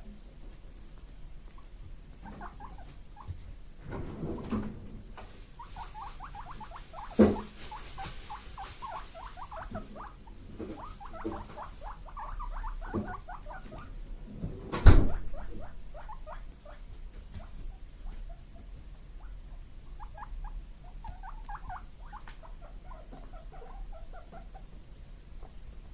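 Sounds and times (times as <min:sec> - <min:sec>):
guinea pigs squeaking: 0:01.5 - 0:04.6, 0:05.2 - 0:25.7.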